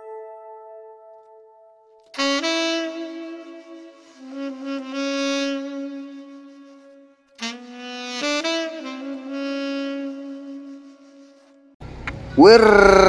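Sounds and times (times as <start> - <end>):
solo instrumental melody: 0.0 - 11.8.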